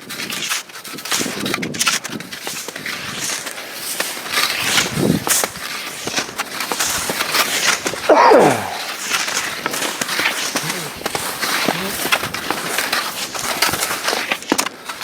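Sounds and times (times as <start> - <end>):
skis swishing over snow: 0.0 - 8.1, 8.8 - 15.0.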